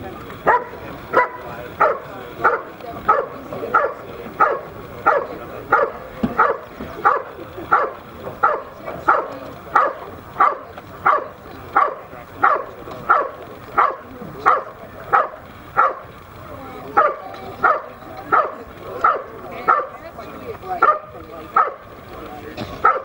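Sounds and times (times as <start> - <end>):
dog barking rhythmically: 0.4 - 16.1, 17.0 - 20.0, 20.8 - 21.9.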